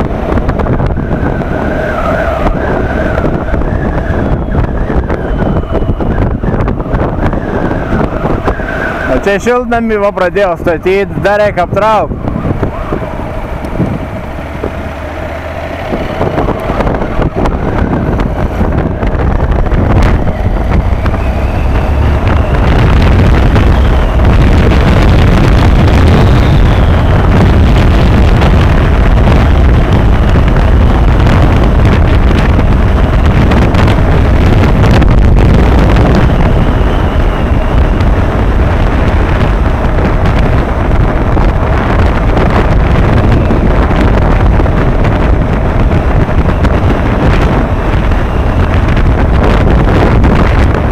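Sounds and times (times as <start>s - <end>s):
motorcycle engine accelerating: 0.0s - 9.1s, 12.1s - 50.9s
wind rush on microphone: 0.0s - 50.9s.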